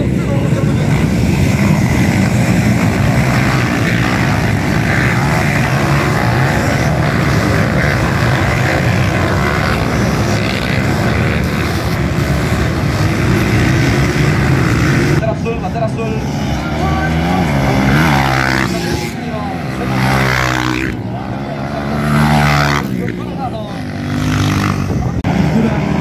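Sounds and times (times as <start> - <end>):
dirt bike engines racing: 0.0 - 26.0.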